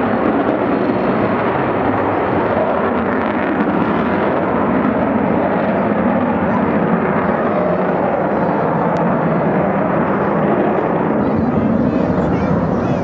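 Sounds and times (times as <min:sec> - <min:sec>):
jet bomber flying overhead: 0:00.0 - 0:13.0.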